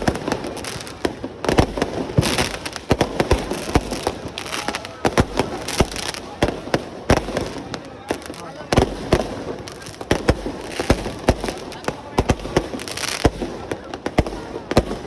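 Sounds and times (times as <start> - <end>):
fireworks banging: 0.0 - 15.0
fireworks crackling: 0.0 - 15.0.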